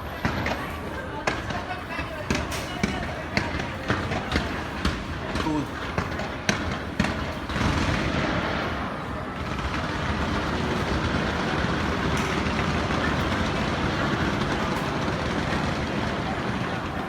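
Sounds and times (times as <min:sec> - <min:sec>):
fireworks rumble and crackle: 0:00.0 - 0:17.0.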